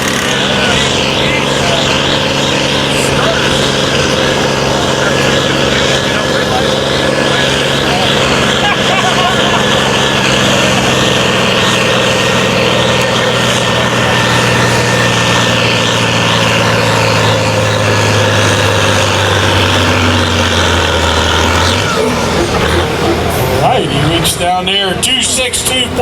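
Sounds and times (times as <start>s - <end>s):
diesel tractor engine under load: 0.0s - 26.0s.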